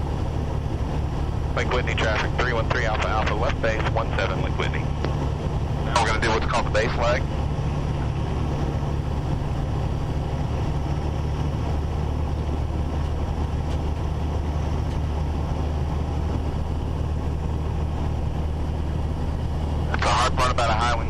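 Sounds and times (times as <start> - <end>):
airplane engine and propeller droning: 0.0 - 21.0.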